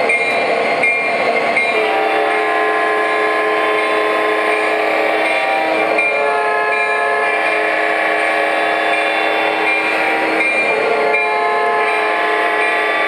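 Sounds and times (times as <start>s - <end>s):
model train running: 0.0s - 13.0s
model train horns blowing: 1.7s - 13.0s.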